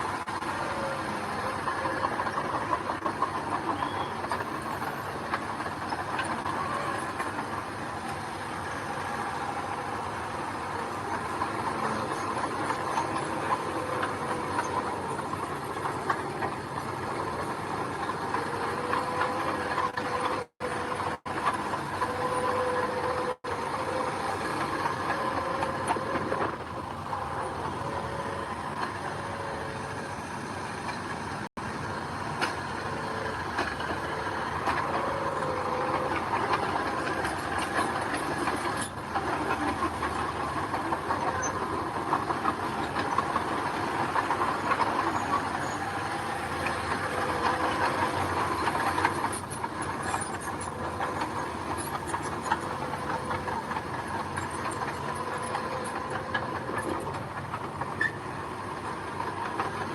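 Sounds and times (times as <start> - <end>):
diesel engine of earthmover: 0.0 - 59.9.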